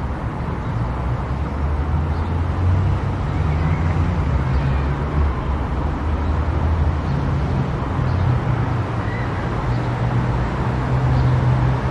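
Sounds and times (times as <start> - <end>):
car engine and tyre rumble: 0.0 - 11.9.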